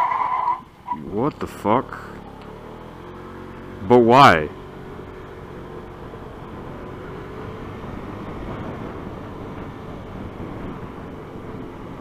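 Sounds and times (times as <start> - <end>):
motorcycle engine and road rumble: 0.0 - 12.0
wind: 0.0 - 12.0.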